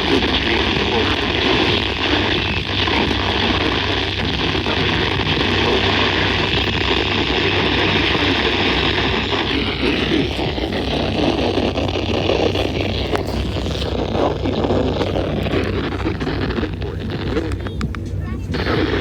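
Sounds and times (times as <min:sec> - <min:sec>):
low hum: 0:00.0 - 0:19.0
radio static hiss: 0:00.0 - 0:19.0.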